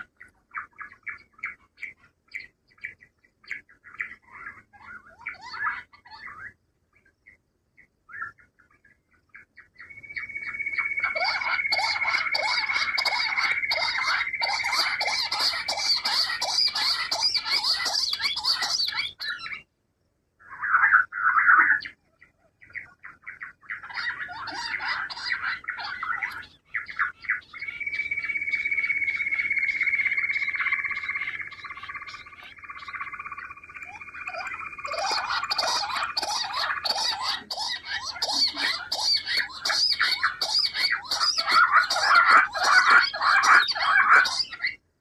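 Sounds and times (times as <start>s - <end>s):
quails chirping and twittering: 0.0s - 19.7s, 20.4s - 44.9s.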